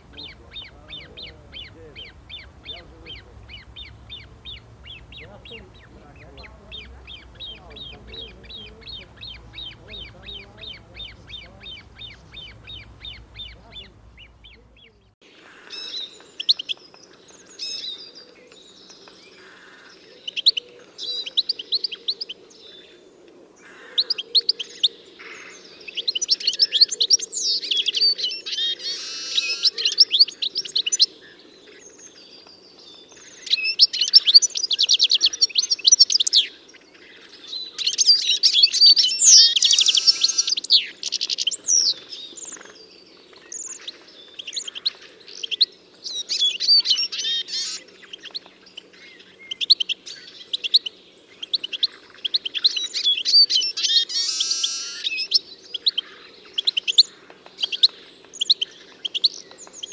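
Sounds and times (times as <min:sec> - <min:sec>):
faint background noise: 0:00.0 - 0:59.9
songbirds singing: 0:00.0 - 0:59.9.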